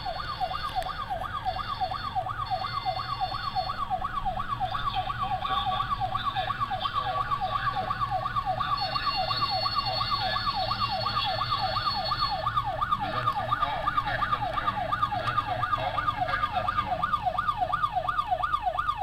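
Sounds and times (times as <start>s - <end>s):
electronic siren wail: 0.0s - 19.0s.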